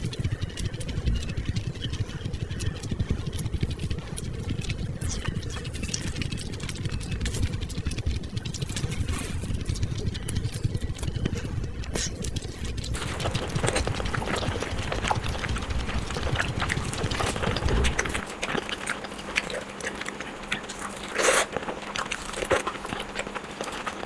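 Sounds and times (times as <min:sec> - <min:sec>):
person chewing food: 0:00.0 - 0:23.4.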